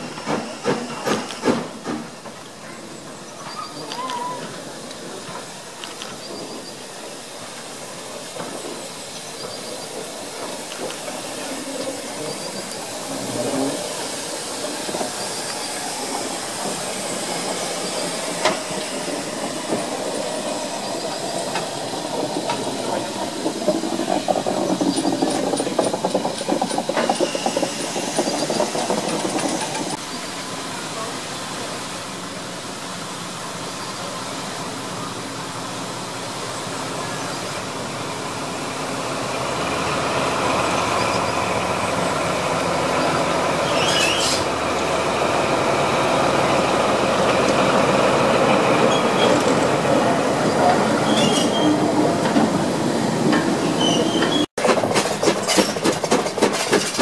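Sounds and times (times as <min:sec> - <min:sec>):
locomotives running on rails: 0:00.0 - 0:57.0
steam hissing: 0:00.0 - 0:57.0.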